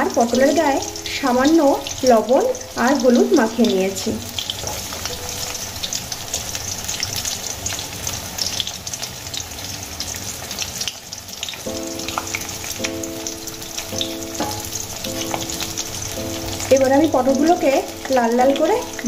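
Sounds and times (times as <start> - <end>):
soft background music: 0.0 - 7.8, 11.4 - 19.0
vegetables sizzling in hot oil: 0.0 - 19.0.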